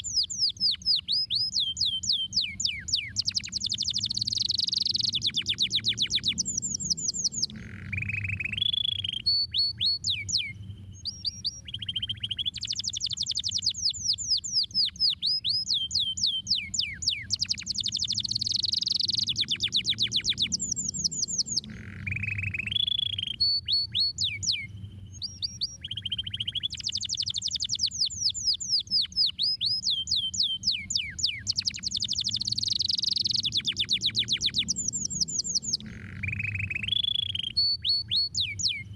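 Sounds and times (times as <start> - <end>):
canary singing: 0.0 - 38.9
low steady hum: 0.0 - 38.9.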